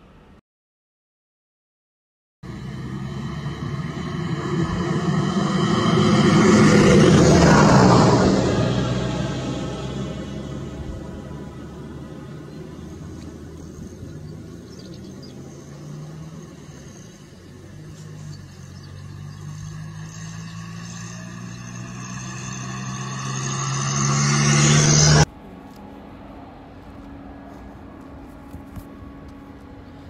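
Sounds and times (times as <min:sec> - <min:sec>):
engine running: 0:02.4 - 0:30.0.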